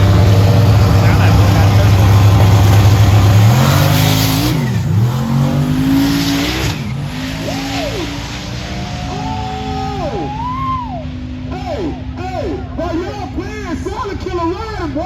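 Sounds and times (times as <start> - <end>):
car engine revving: 0.0 - 13.6
tires squealing: 0.0 - 13.9.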